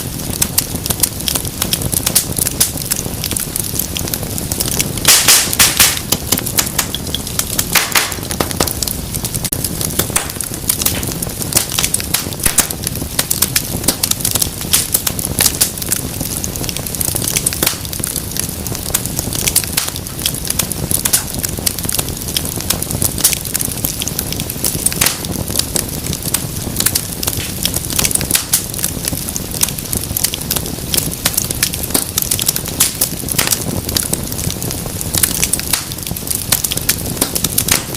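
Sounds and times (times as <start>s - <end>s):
low rumble of flame: 0.0s - 37.9s
wood fire crackling and popping: 0.0s - 37.9s.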